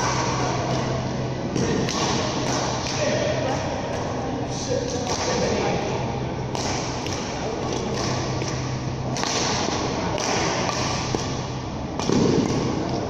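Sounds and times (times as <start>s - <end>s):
rackets striking shuttlecock: 0.0s - 4.2s, 6.5s - 13.0s.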